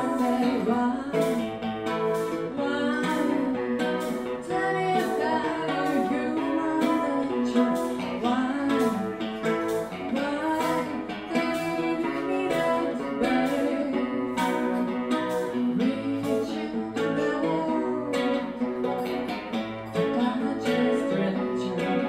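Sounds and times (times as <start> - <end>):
person singing: 0.0 - 22.0
strummed guitar: 0.0 - 22.0.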